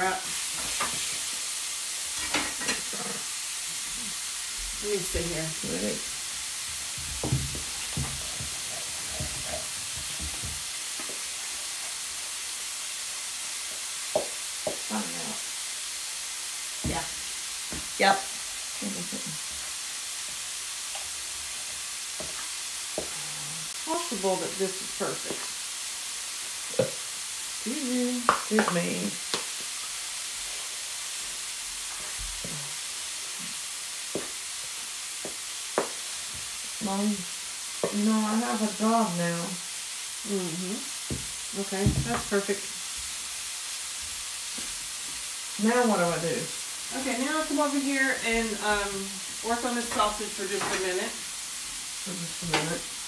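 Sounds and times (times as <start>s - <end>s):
sausage sizzling in a pan: 0.0s - 53.0s
steady hiss: 0.0s - 53.0s.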